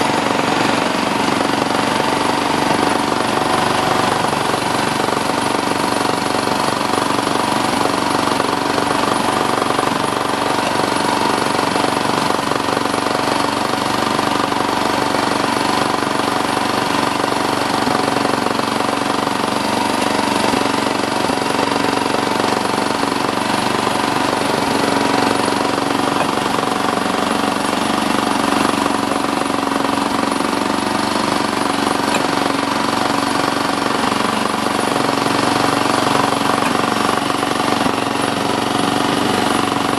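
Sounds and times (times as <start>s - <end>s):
rapid rattle of train wheels: 0.0s - 39.9s.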